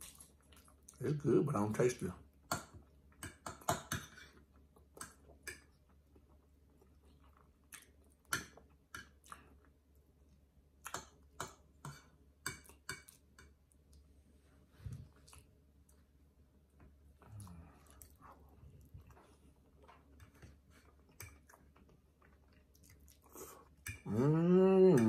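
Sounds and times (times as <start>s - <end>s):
man chewing food: 0.0s - 1.0s, 2.3s - 25.0s.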